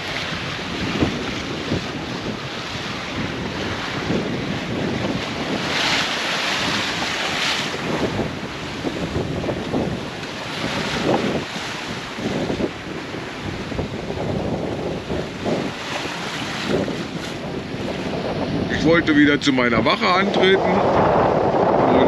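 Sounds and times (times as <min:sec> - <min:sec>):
sea rushing past hull: 0:00.0 - 0:22.0
wind buffeting microphone: 0:00.0 - 0:22.0.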